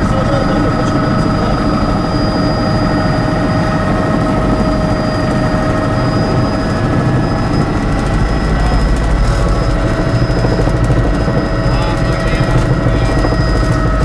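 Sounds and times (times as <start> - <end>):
helicopter engine and rotor drone: 0.0 - 14.0.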